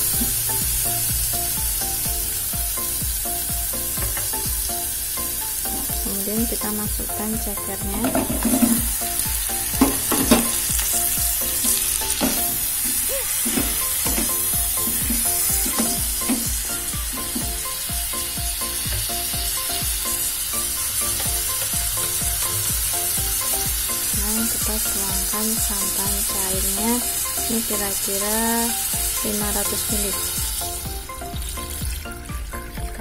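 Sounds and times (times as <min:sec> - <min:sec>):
background music: 0:00.0 - 0:33.0
food sizzling in hot oil: 0:00.0 - 0:33.0.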